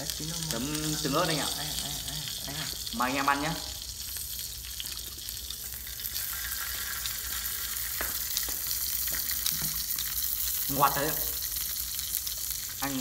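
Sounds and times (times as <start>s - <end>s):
meat sizzling with crackle: 0.0s - 13.0s.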